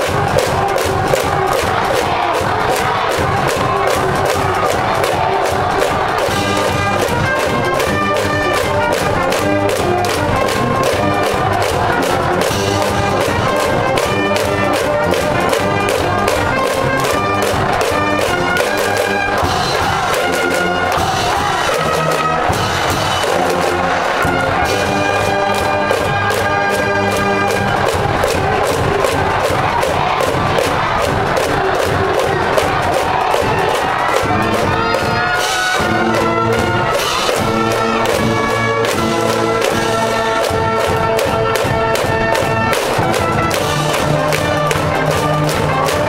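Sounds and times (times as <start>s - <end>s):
brass band playing: 0.0s - 46.0s
drum steady beat: 0.0s - 46.0s
trumpets: 0.0s - 46.0s.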